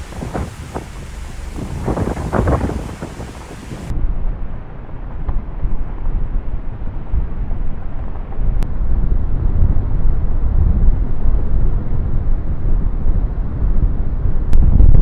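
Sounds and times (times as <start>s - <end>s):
strong wind gusting on microphone: 0.0s - 15.0s.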